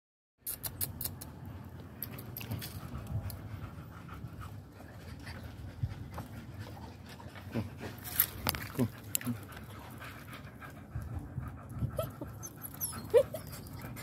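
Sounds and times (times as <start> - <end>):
dog panting: 2.0 - 14.0.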